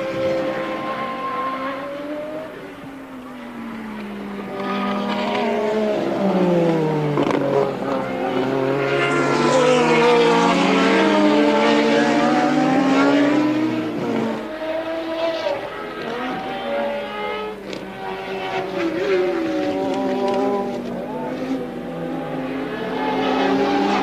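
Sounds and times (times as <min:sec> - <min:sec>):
race cars passing by: 0:00.0 - 0:24.0.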